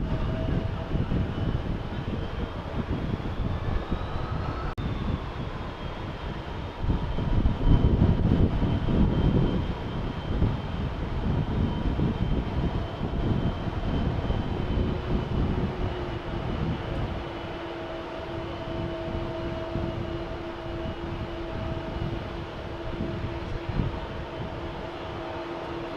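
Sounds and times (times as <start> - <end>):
jet airliner engines passing: 0.0 - 25.9.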